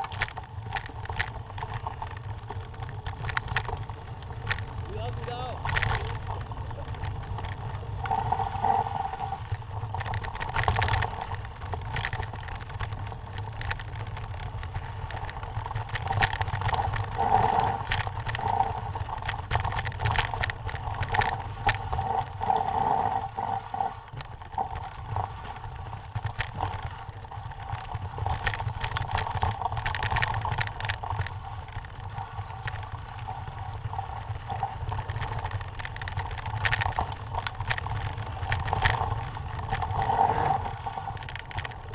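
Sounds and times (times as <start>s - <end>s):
bike rattling over stones: 0.0s - 41.9s
tyres crunching over gravel: 0.0s - 41.9s.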